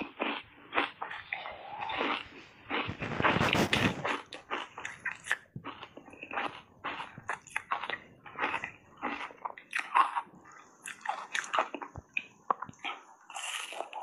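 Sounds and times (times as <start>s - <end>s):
crunching and chewing ice bar: 0.0s - 14.0s.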